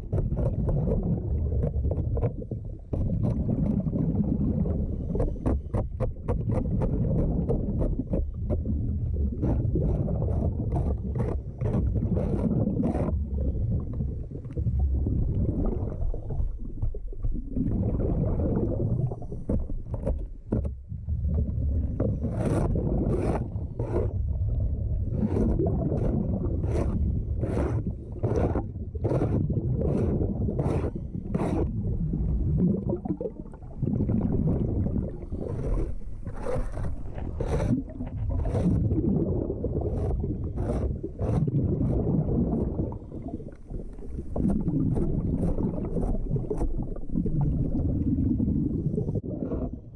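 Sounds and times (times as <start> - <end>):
low underwater rumble: 0.0 - 49.9
scraper scraping boat hull underwater: 0.0 - 49.9.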